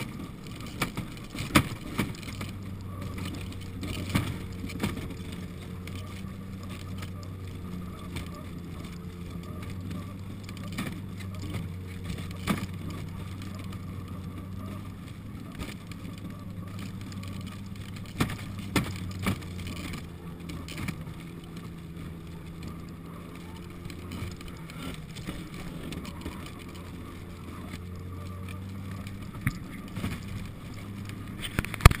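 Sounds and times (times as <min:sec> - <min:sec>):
sled knocking and rattling: 0:00.0 - 0:32.0
snowmobile engine running: 0:00.0 - 0:32.0.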